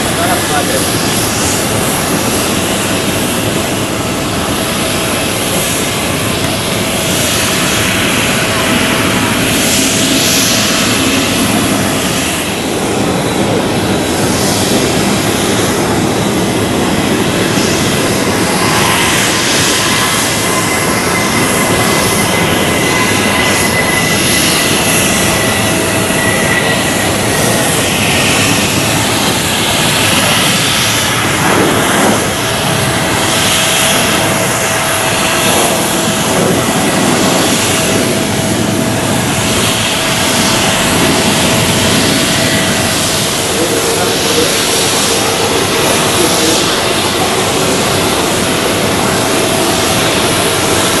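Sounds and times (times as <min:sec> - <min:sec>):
high engine whine: 0:00.0 - 0:51.0
jet engines roaring: 0:00.0 - 0:51.0.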